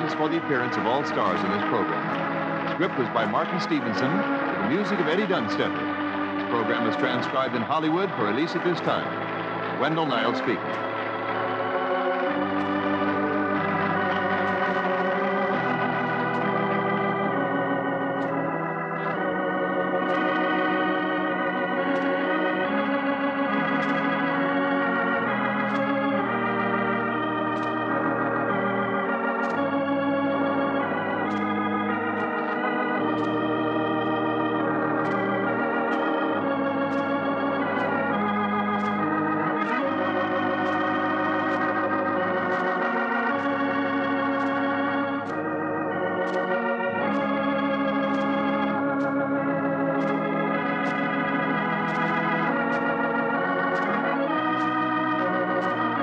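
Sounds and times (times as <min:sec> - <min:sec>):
organ music with vibrato chords: 0:00.0 - 0:56.0.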